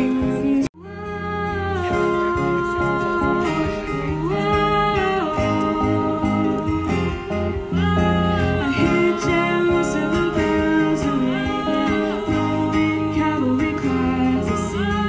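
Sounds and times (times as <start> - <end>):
electric and acoustic guitar: 0.0 - 15.0
woman singing: 0.0 - 15.0.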